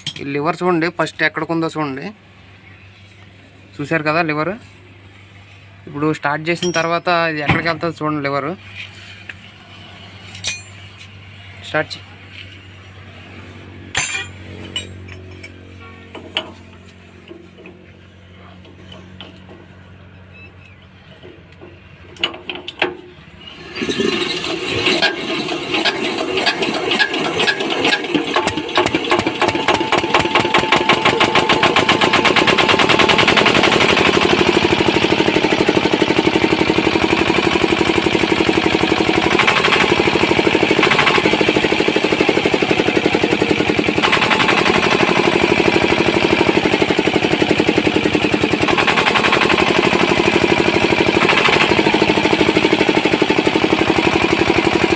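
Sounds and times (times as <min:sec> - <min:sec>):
diesel engine starting and running: 0:08.4 - 0:54.9.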